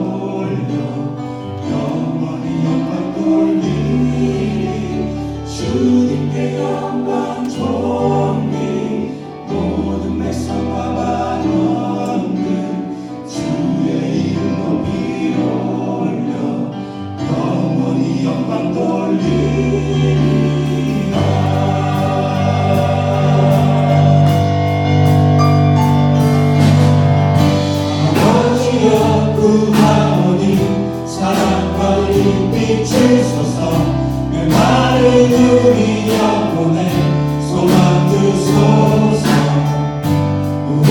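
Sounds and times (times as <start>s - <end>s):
band accompaniment: 0.0s - 40.9s
choir singing worship song: 0.0s - 40.9s.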